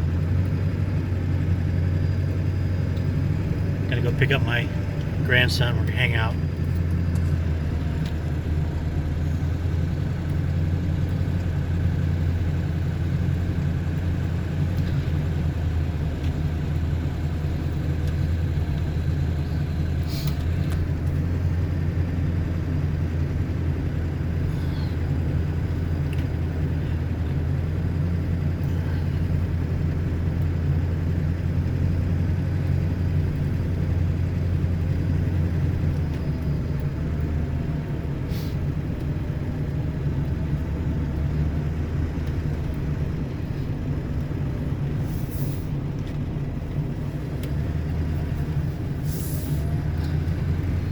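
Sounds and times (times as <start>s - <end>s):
engine and road noise drone: 0.0s - 50.9s.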